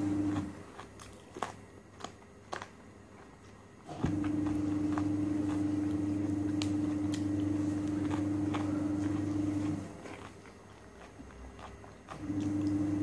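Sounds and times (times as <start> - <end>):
crisp bites and chewing: 0.2 - 13.0.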